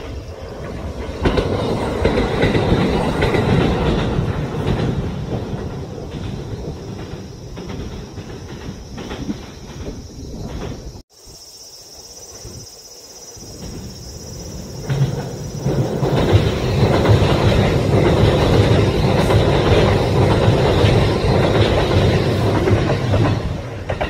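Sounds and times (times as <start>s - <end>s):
train passing on rails: 0.0s - 11.0s, 12.2s - 24.0s.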